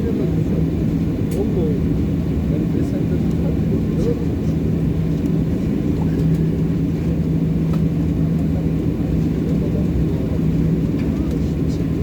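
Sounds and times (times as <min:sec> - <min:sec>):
aircraft engines idling: 0:00.0 - 0:12.0.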